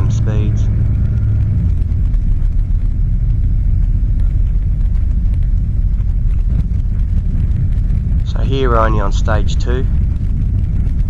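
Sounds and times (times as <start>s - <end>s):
light aircraft engine rumbling: 0.0s - 11.0s.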